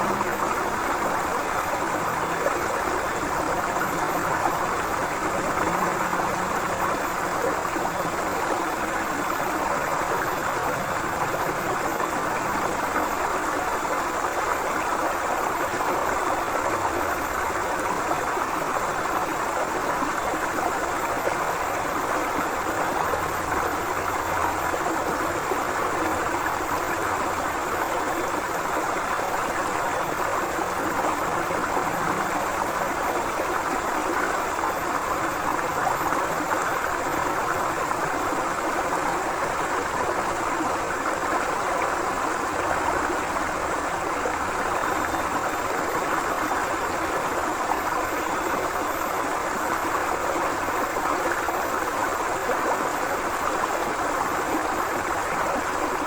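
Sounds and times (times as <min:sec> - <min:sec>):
river water rushing over rocks: 0:00.0 - 0:56.0.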